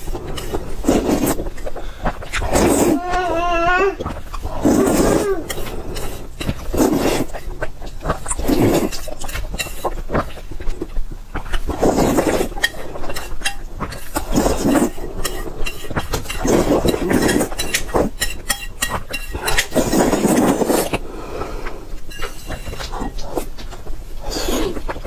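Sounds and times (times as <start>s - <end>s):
person slurping noodles: 0.0s - 3.2s, 4.4s - 10.4s, 11.5s - 18.2s, 19.3s - 23.6s, 24.2s - 25.0s.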